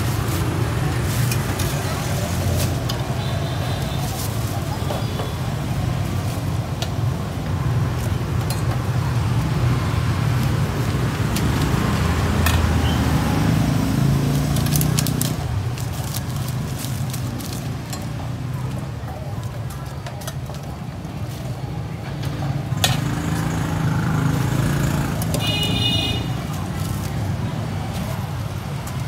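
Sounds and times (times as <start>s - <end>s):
road traffic engine hum: 0.0s - 29.0s.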